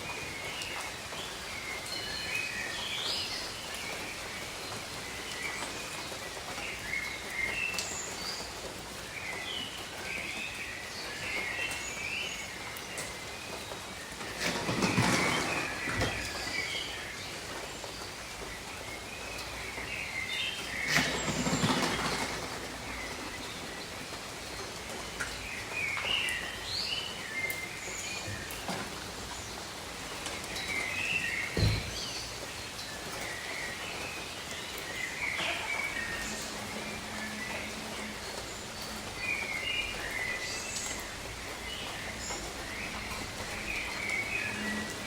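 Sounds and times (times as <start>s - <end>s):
rain on foliage: 0.0s - 45.0s
birds chirping: 0.2s - 45.0s.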